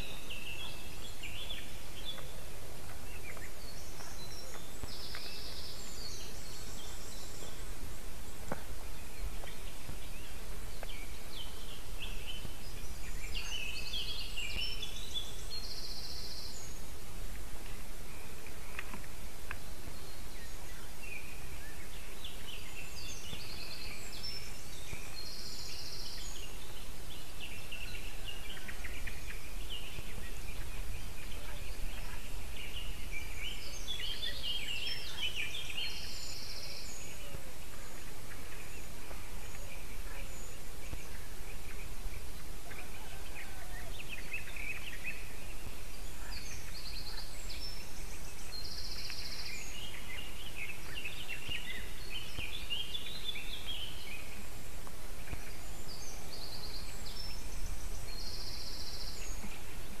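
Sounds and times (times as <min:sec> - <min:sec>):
songbirds singing: 0:00.0 - 1:00.0.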